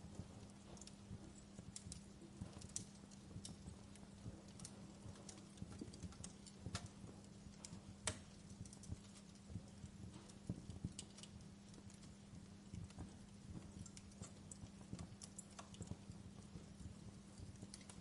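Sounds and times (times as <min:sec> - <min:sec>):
faint steady hum: 0:00.0 - 0:18.0
firewood crackling and popping: 0:00.0 - 0:18.0.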